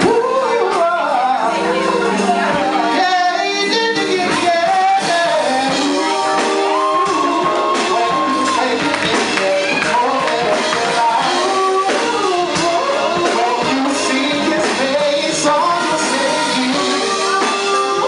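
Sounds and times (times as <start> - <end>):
gospel band playing: 0.0 - 18.0.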